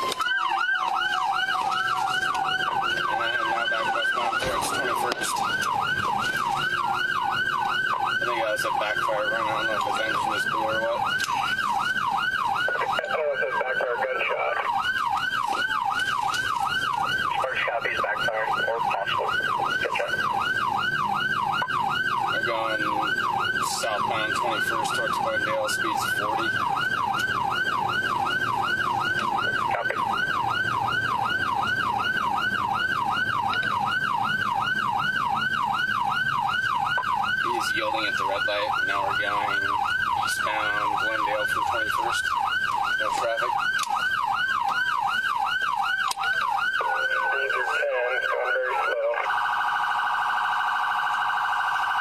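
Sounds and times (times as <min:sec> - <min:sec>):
engine and road noise: 0:00.0 - 0:52.0
police siren yelping: 0:00.0 - 0:52.0.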